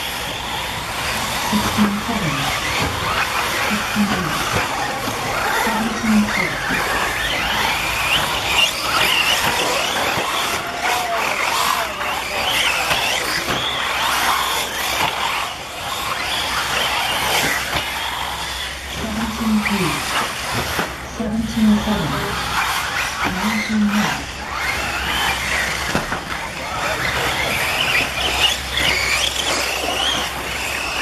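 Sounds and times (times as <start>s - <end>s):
rc car motors whining: 0.0s - 31.0s.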